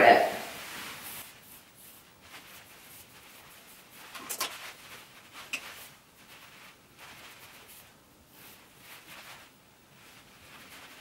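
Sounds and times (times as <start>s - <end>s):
comb rustling hair and cape: 0.4s - 11.0s.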